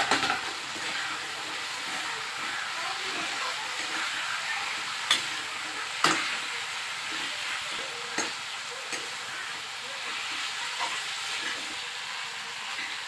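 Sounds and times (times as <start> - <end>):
metal spoon scraping a pan: 0.0 - 13.0
potatoes sizzling in oil: 0.0 - 13.0.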